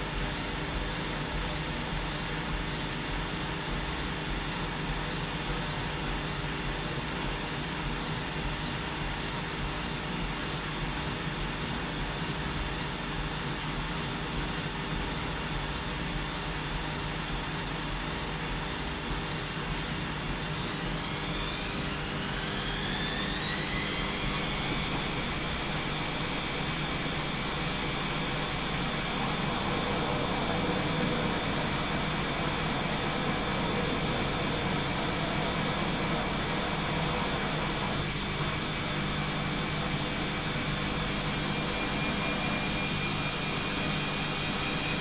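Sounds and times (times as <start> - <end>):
washing machine spin cycle whine: 0.0 - 45.0.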